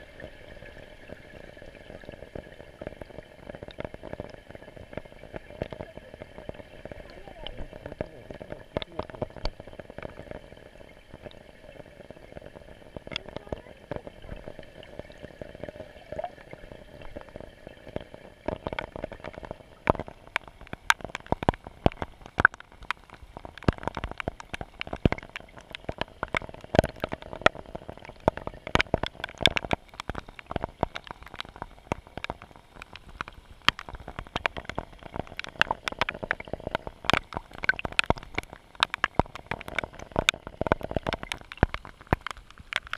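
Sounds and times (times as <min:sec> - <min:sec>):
faint steady hum: 0:00.0 - 0:42.9
raindrops hitting pool water: 0:00.0 - 0:42.9.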